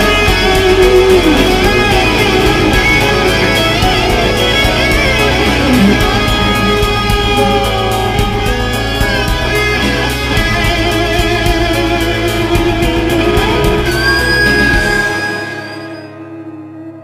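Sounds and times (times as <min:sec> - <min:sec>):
electric guitar music over a beat: 0:00.0 - 0:17.0.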